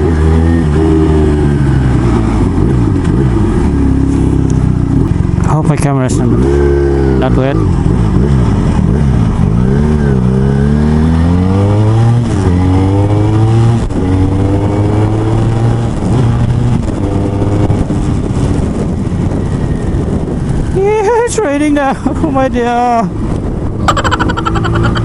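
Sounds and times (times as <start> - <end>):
motorcycle engine accelerating: 0.0 - 20.8, 23.4 - 25.0.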